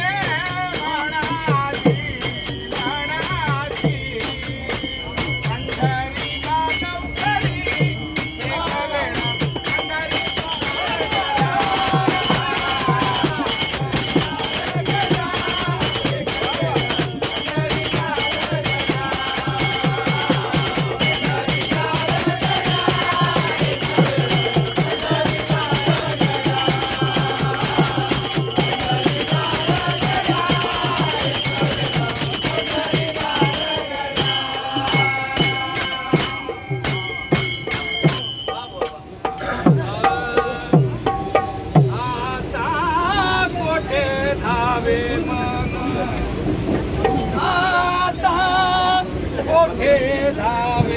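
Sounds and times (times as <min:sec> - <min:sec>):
metal hand cymbals jingling: 0:00.0 - 0:42.0
steady drum beat: 0:00.0 - 0:42.1
group singing devotional song: 0:00.0 - 0:50.9.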